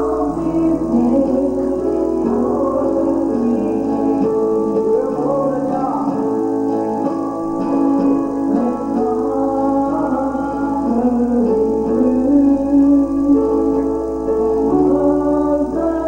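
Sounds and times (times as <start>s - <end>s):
gospel singing with instruments: 0.0s - 16.0s.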